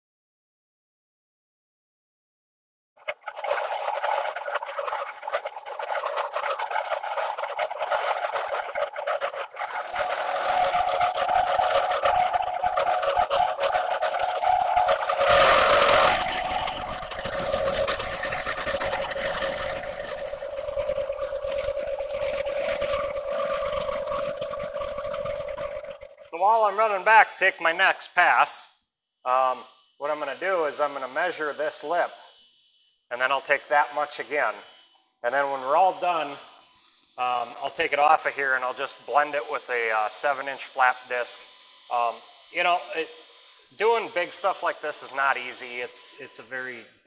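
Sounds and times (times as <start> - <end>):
milling cutter machining metal: 5.8 - 27.8, 29.6 - 32.2, 33.2 - 46.8.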